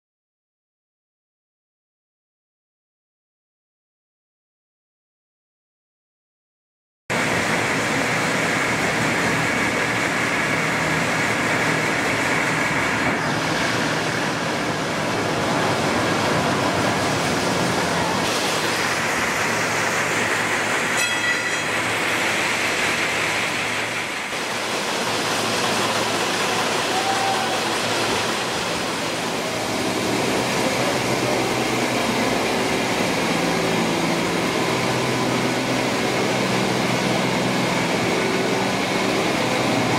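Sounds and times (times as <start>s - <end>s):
mill machines running: 7.1s - 39.9s.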